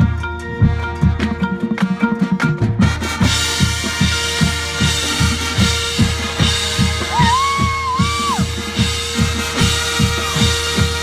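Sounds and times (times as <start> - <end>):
marching band music: 0.0 - 11.0.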